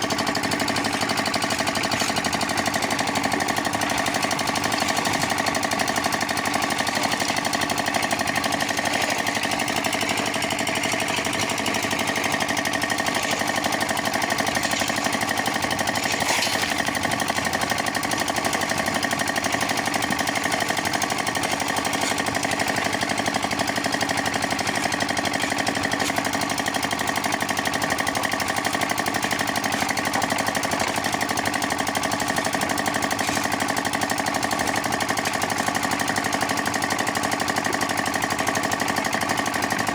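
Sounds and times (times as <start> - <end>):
concrete mixer motor pulsing: 0.0 - 39.9.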